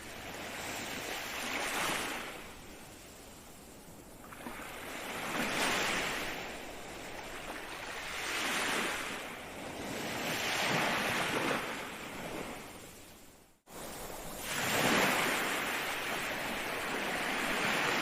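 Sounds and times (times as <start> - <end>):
ocean waves breaking: 0.0 - 3.2, 4.2 - 18.0
wind: 0.0 - 18.0.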